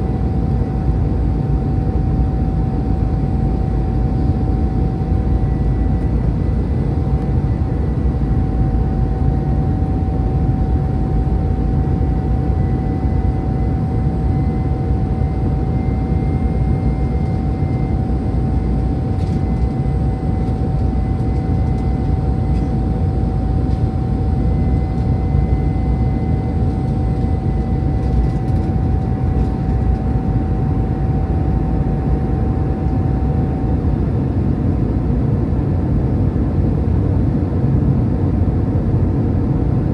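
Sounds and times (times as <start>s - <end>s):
aircraft cabin engine drone: 0.0s - 39.9s
mid-pitched whine: 0.0s - 39.9s.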